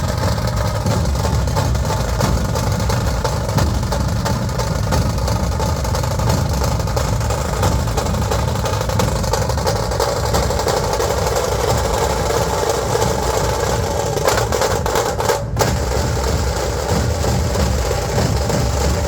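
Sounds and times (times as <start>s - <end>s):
dhol drums beating: 0.0s - 19.0s.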